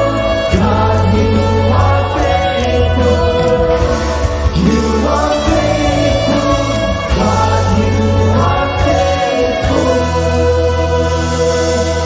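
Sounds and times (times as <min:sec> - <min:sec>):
bass guitar: 0:00.0 - 0:12.0
keyboard: 0:00.0 - 0:12.0
singers holding sustained notes: 0:00.0 - 0:12.0.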